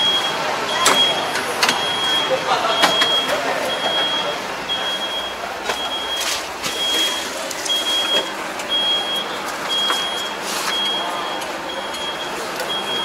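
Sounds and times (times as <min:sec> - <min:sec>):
electronic warning beeps: 0:00.0 - 0:13.0
steady background noise: 0:00.0 - 0:13.0.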